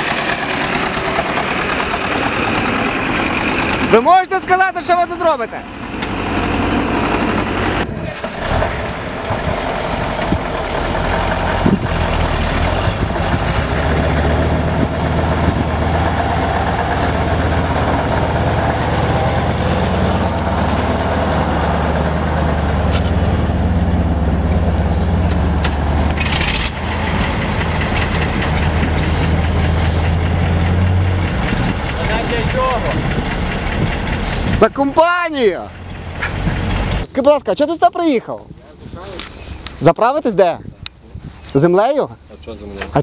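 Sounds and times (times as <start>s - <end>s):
diesel truck engines droning: 0.0s - 43.0s.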